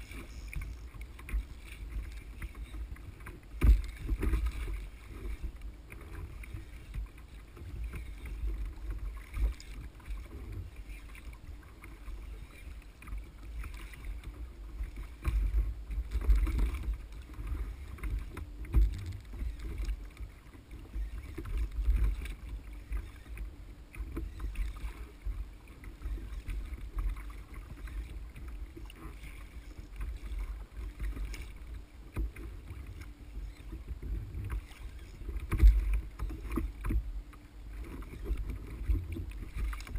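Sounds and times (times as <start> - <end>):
water slapping against kayak hull: 0.0 - 12.2, 13.0 - 33.1, 33.7 - 39.9
wind rumble on camera: 0.0 - 39.9.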